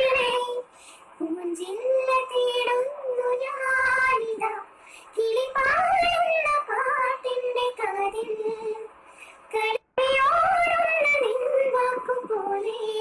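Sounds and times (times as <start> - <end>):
women singing together: 0.0 - 8.9, 9.6 - 13.0.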